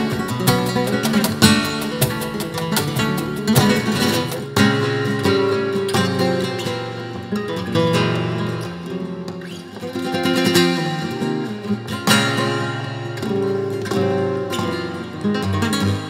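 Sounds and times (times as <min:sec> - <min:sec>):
flamenco guitar: 0:00.0 - 0:16.0.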